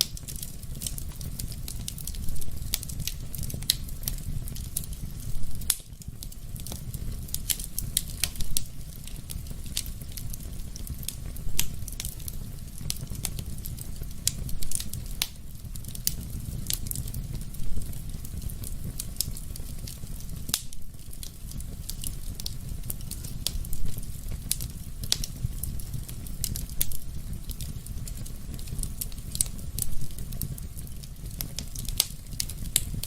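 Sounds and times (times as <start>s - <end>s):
fire crackling: 0.0s - 33.0s
fire flames rumbling: 0.0s - 33.0s
loud fire pops: 0.0s - 33.0s.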